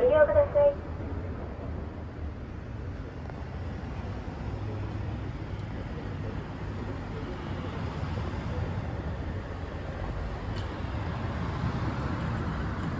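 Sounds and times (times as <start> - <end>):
street traffic rumble: 0.0 - 12.9.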